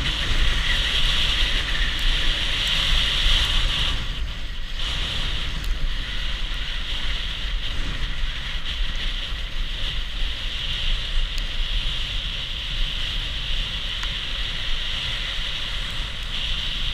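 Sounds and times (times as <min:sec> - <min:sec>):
wind rushing over microphone: 0:00.0 - 0:16.9.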